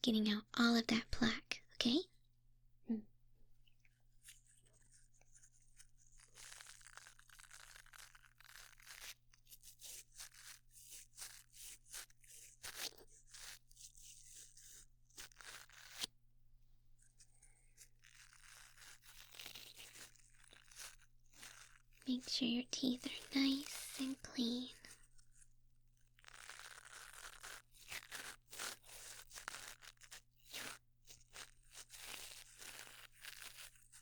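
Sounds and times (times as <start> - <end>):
scratchy strokes near microphone: 4.2 - 16.1, 17.2 - 25.5, 26.2 - 34.0.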